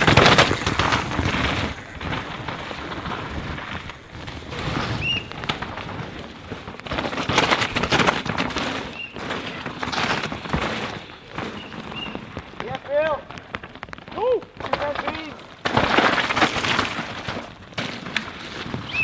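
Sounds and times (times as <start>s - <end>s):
mountain bikes passing in mud: 0.0s - 19.0s.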